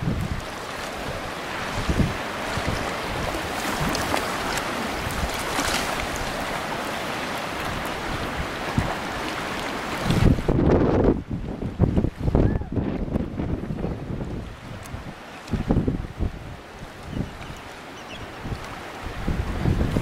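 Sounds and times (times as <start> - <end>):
waves: 0.0 - 20.0
wind buffeting microphone: 0.0 - 20.0.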